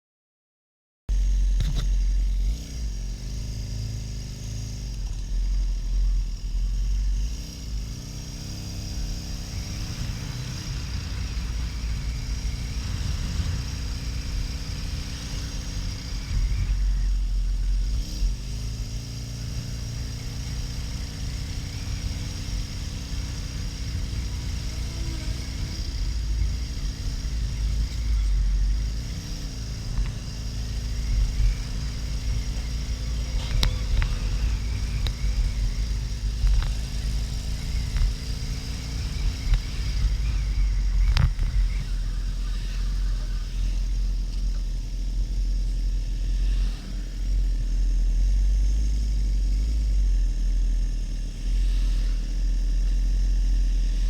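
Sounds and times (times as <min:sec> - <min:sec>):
motorcycle engine running: 0:01.1 - 0:54.0
wind rumble on microphone: 0:01.1 - 0:54.0.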